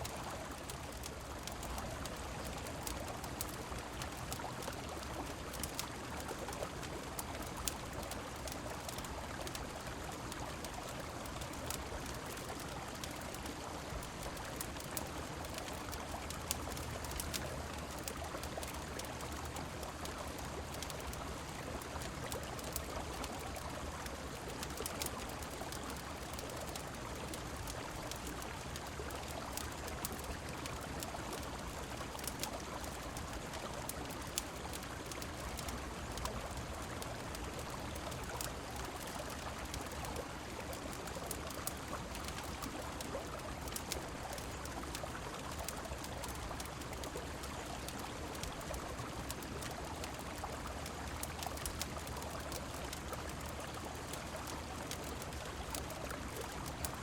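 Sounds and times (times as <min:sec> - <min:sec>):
rain: 0:00.0 - 0:57.0
wood fire crackling: 0:00.0 - 0:57.0.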